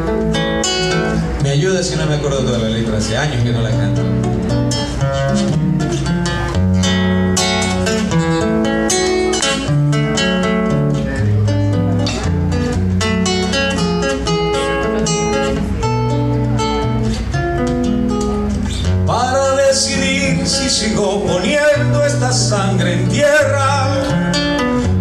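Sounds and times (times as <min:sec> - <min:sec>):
acoustic guitar strumming and plucking: 0:00.0 - 0:25.0
steady bass line: 0:00.0 - 0:25.0.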